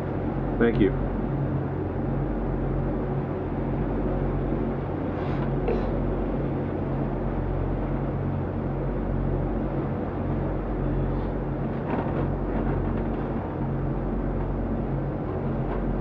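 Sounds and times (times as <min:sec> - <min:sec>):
boat engine drone: 0:00.0 - 0:16.0.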